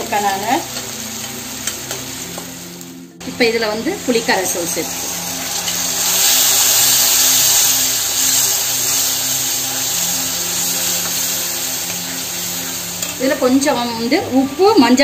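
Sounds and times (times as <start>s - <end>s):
liquid sizzling in hot oil: 0.0s - 14.9s.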